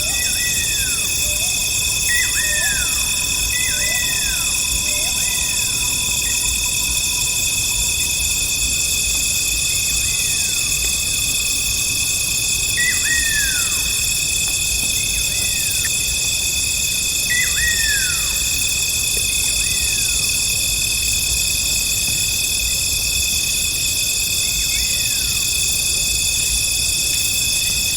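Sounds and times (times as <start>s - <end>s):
crickets and insects chirping: 0.0s - 27.9s.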